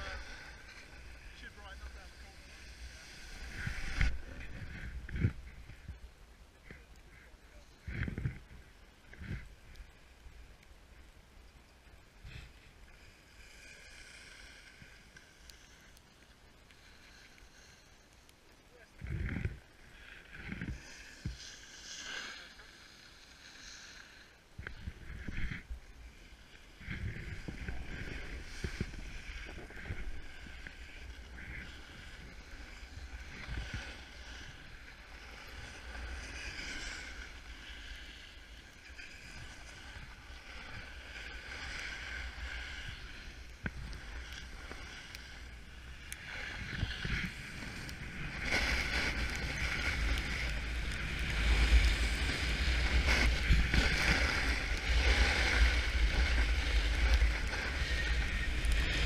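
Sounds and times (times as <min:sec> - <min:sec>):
snowboard scraping over snow: 0:00.0 - 0:06.0, 0:12.2 - 0:15.8, 0:18.7 - 0:59.0.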